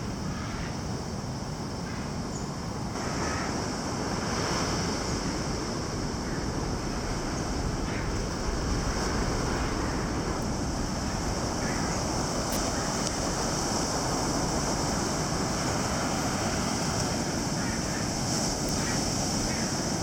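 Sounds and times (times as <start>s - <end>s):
ocean surf rushing on shore: 3.0s - 20.0s
wind on microphone: 3.0s - 20.0s.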